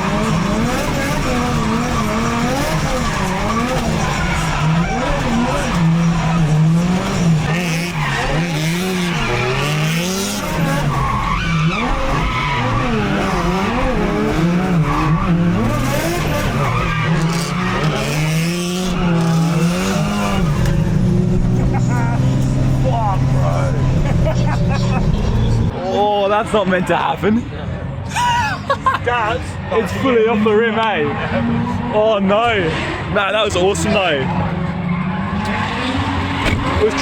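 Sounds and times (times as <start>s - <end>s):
car engine revving: 0.0s - 25.8s, 30.0s - 37.0s
tyres squealing and skidding: 0.0s - 25.8s, 28.0s - 37.0s.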